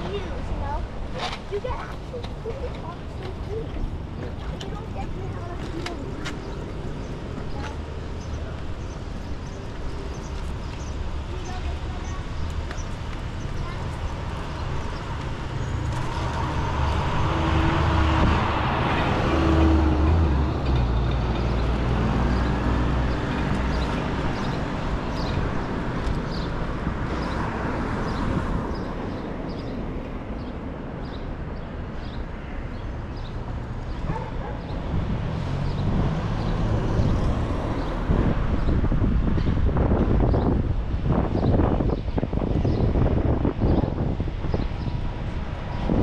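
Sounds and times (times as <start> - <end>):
traffic engine rumble: 0.0 - 46.0.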